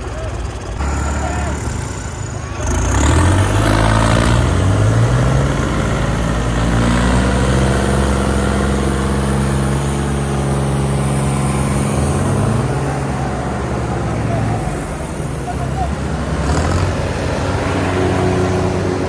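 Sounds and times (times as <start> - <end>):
diesel tractor engine revving: 0.0 - 19.0.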